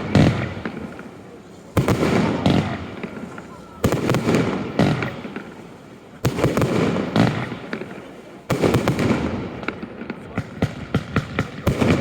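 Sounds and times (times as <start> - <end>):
crackling firework pops: 0.0 - 12.0
firework bangs: 0.0 - 12.0.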